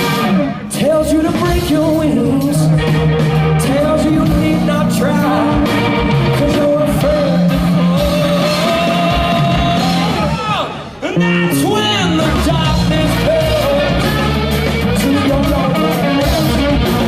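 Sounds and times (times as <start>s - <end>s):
electric guitar bending notes: 0.0s - 17.0s
rock band playing live: 0.0s - 17.0s.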